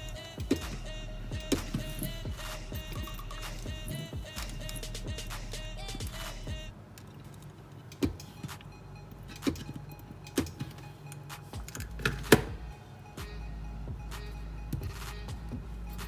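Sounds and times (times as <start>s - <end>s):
background music: 0.0s - 6.7s, 8.2s - 16.0s.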